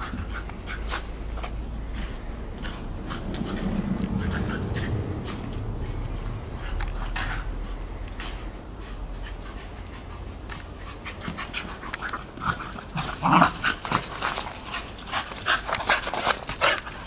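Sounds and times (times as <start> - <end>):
dogs growling and yapping: 2.2 - 17.0.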